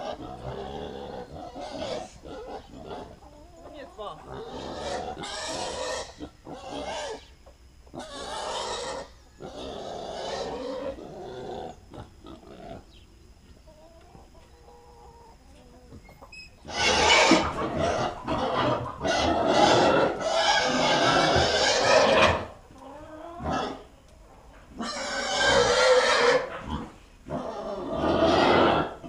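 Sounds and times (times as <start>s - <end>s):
pigs grunting and squealing: 0.0s - 7.3s, 7.9s - 13.0s, 14.6s - 23.9s, 24.7s - 29.0s
hens clucking faintly: 0.0s - 29.0s.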